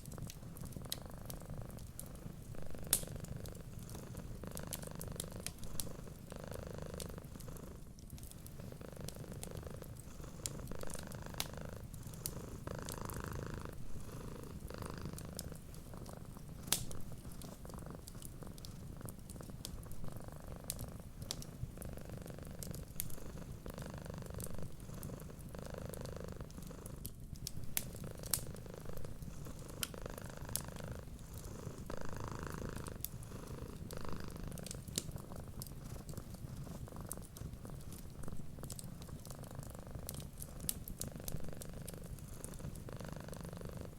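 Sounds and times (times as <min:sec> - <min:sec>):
wood fire crackling: 0:00.0 - 0:06.3, 0:06.9 - 0:42.9
cat purring: 0:00.0 - 0:43.9.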